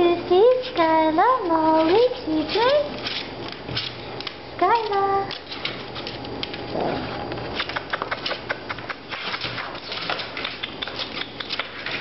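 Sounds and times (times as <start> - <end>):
puppy claws scratching on plastic: 1.6 - 12.0.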